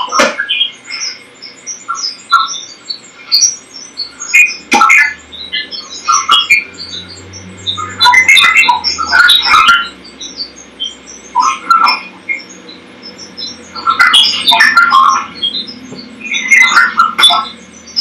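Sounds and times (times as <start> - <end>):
bubbling chirping electronic blips: 0.0 - 18.0.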